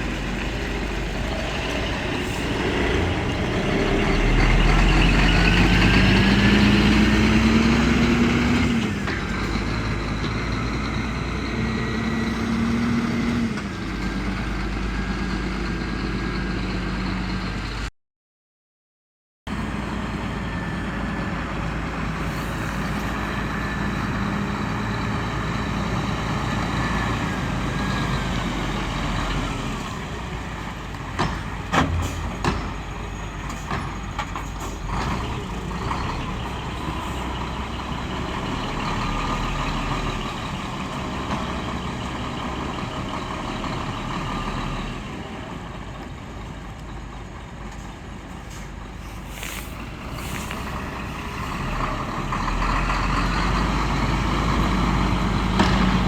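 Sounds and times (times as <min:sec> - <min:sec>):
diesel truck engine running: 0:00.0 - 0:17.9, 0:19.5 - 0:56.0.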